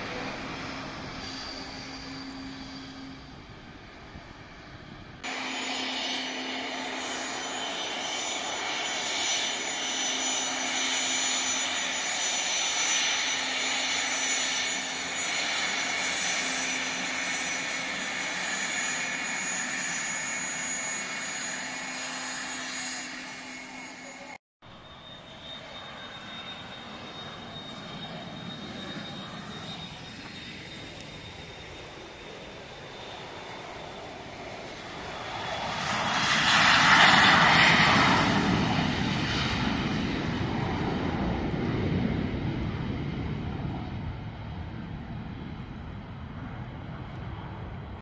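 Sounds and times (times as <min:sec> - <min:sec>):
distant airliner engines: 0:00.0 - 0:48.0
jet engines whining close by: 0:00.0 - 0:48.0.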